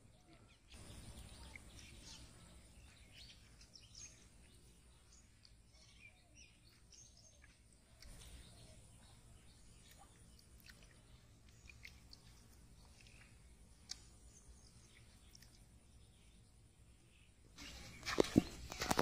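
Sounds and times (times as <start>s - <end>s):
bird chirps: 0.0s - 16.4s.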